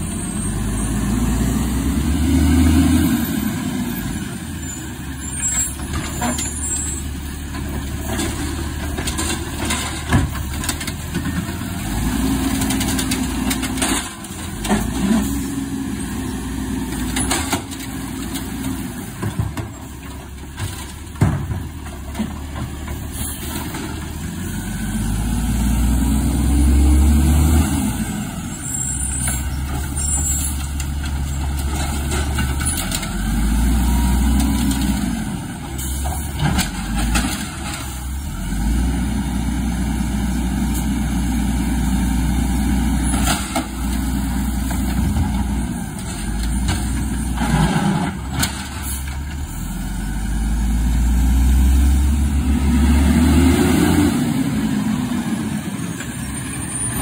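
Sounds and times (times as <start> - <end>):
garbage truck diesel engine revving: 0.0 - 19.2, 21.7 - 57.0.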